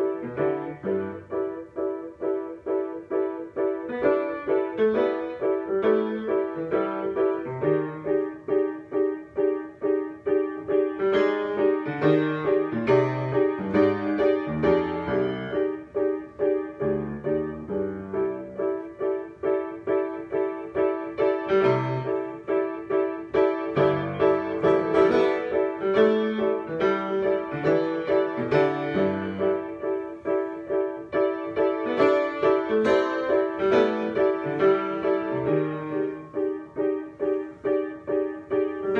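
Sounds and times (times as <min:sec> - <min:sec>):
solo piano: 0:00.0 - 0:38.9.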